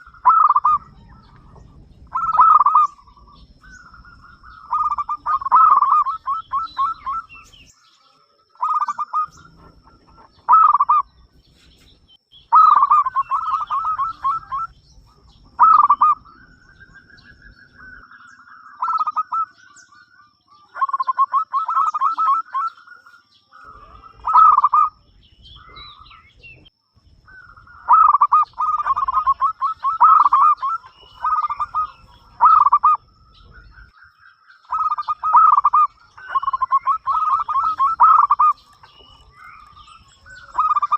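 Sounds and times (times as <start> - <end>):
dove cooing: 0.0 - 7.7, 8.4 - 11.5, 12.5 - 34.0, 34.6 - 40.9.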